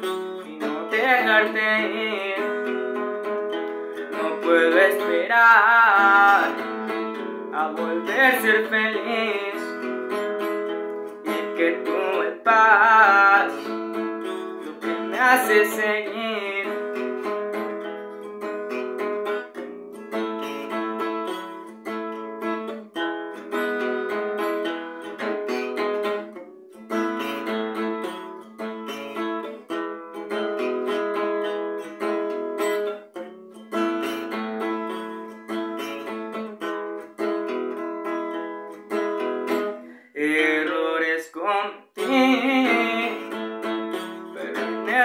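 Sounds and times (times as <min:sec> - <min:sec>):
classical guitar strummed: 0:00.0 - 0:45.0.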